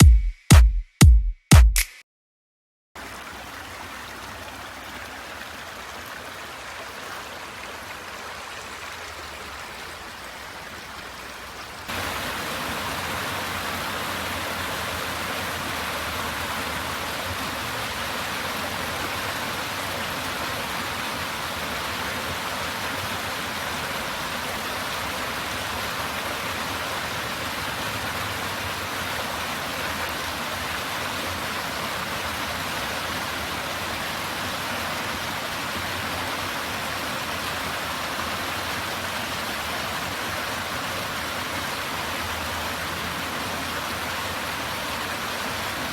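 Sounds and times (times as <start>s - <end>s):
river water rushing: 3.0s - 45.9s.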